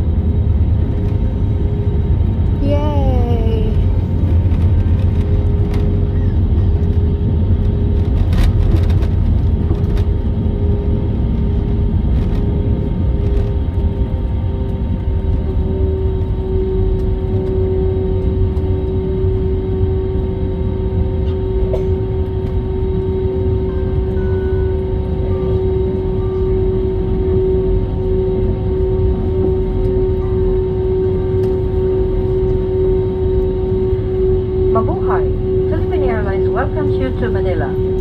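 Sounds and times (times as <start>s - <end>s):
constant hum: 0.0s - 38.0s
jet cabin rumble: 0.0s - 38.0s.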